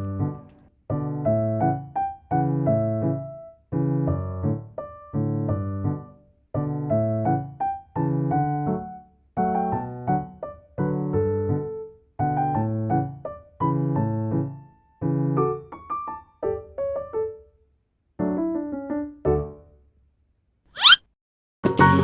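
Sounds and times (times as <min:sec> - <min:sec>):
gentle piano chords: 0:00.0 - 0:17.5, 0:18.2 - 0:19.8.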